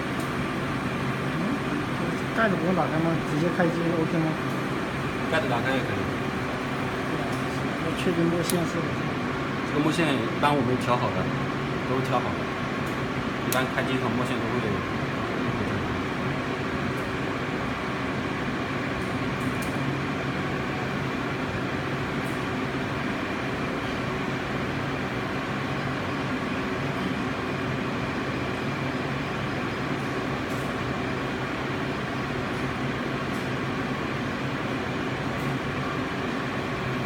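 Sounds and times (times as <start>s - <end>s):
printer mechanical hum: 0.0s - 37.0s.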